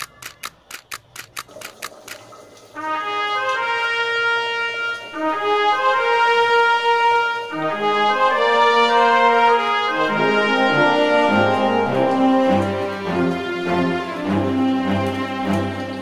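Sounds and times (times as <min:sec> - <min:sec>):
brass melody: 0:02.7 - 0:16.0.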